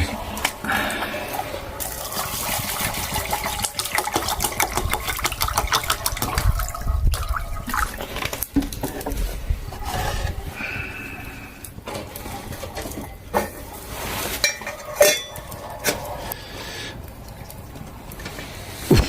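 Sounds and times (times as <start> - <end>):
water pouring into pot: 0.0 - 8.8, 11.9 - 18.7.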